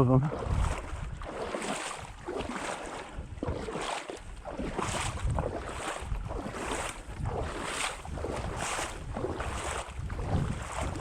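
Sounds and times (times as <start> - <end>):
water sloshing around waders: 0.0 - 11.0.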